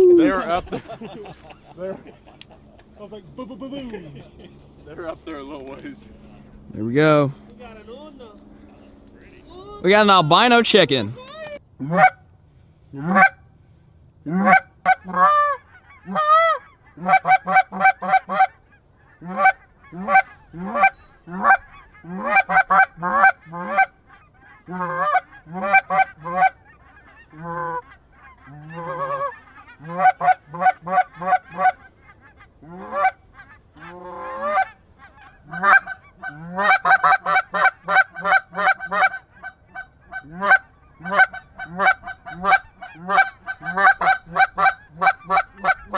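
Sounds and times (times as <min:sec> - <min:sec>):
geese honking: 0:04.6 - 0:12.2, 0:13.0 - 0:13.4, 0:14.2 - 0:45.9.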